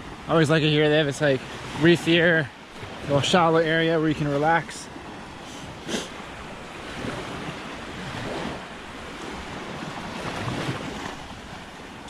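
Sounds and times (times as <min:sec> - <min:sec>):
small waves washing onto shore: 0:00.0 - 0:12.0
wind buffeting microphone: 0:00.0 - 0:12.0.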